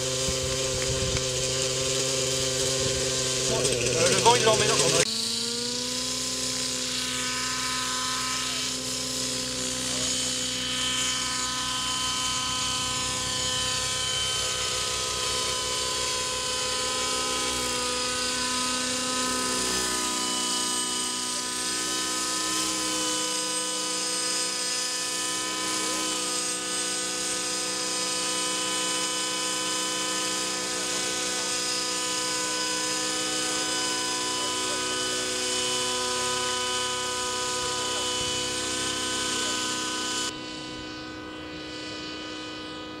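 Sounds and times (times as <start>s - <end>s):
model helicopter high whine: 0.0s - 43.0s.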